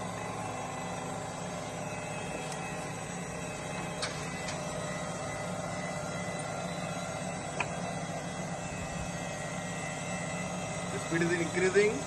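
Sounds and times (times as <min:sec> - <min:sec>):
grinder humming: 0:00.0 - 0:12.0.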